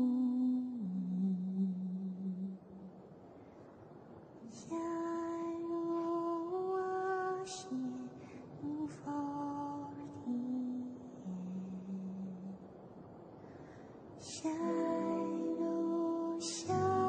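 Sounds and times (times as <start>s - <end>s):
woman singing a lullaby: 0.0s - 3.0s, 4.4s - 12.8s, 14.2s - 17.0s.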